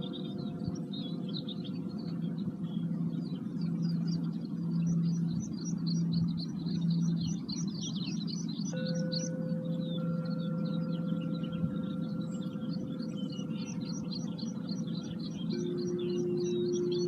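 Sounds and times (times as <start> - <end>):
singing bowl ringing: 0.0 - 7.2, 8.0 - 17.0
birds chirping: 0.0 - 17.0
low drone: 0.0 - 17.0.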